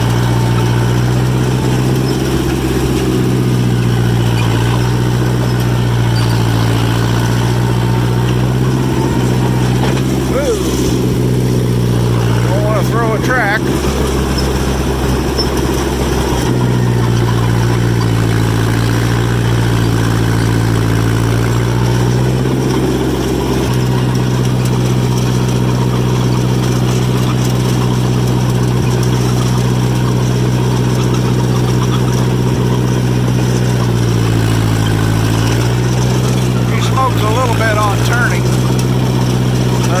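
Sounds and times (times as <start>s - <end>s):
bulldozer engine running: 0.0s - 40.0s.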